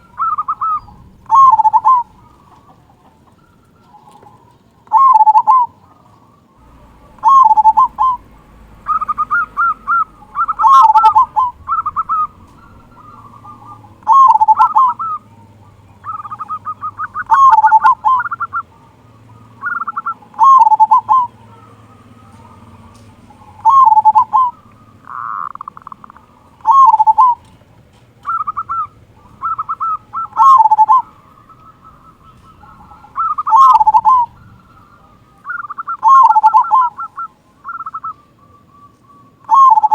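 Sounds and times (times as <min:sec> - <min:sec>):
zebra dove cooing: 0:00.0 - 0:39.9.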